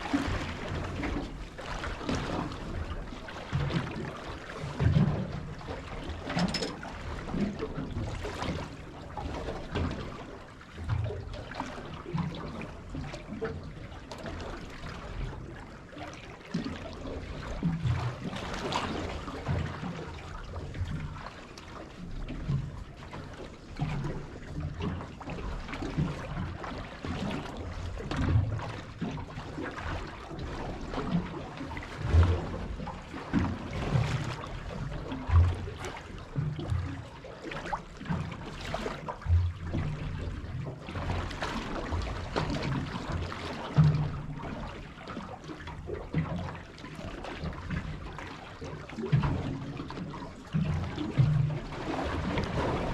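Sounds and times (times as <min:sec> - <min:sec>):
water lapping against boat hull: 0:00.0 - 0:52.9.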